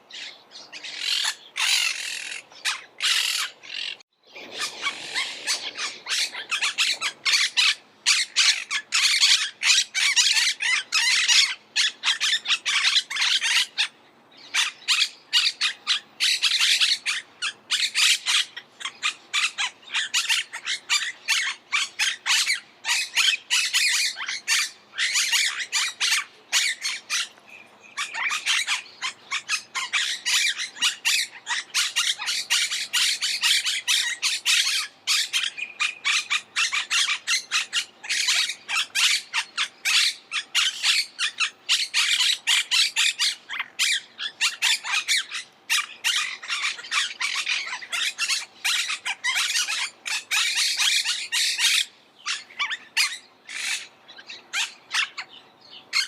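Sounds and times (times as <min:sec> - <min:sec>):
parakeets squawking: 0:00.1 - 0:56.0.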